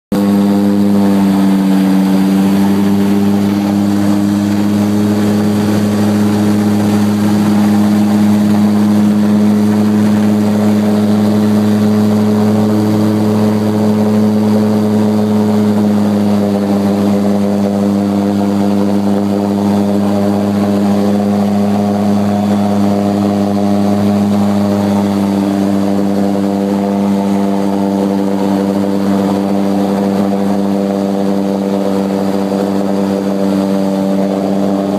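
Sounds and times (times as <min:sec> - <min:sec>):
propeller engine drone: 0:00.1 - 0:34.9.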